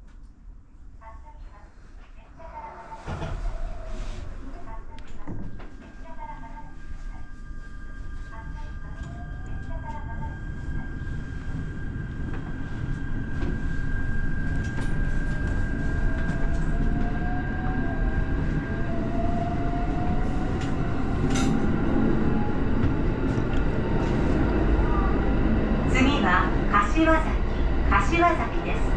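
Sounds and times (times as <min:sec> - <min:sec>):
electric train rumble: 0:02.4 - 0:28.9.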